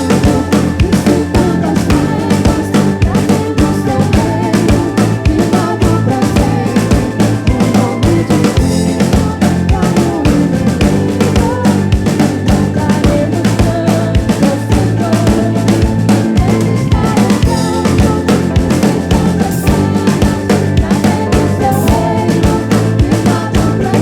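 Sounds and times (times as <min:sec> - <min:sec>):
drum kit beat: 0:00.0 - 0:24.0
live soul band playing: 0:00.0 - 0:24.0.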